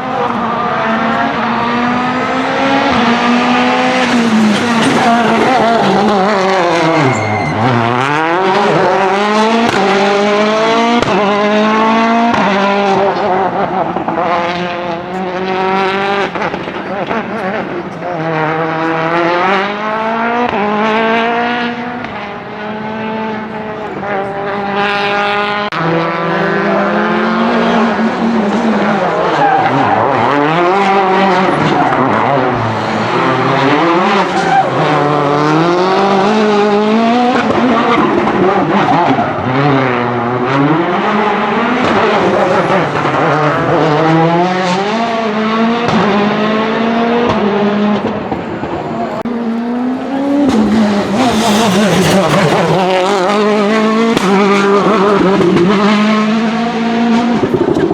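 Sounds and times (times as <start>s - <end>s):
rally car engine at full throttle: 0.0s - 57.9s.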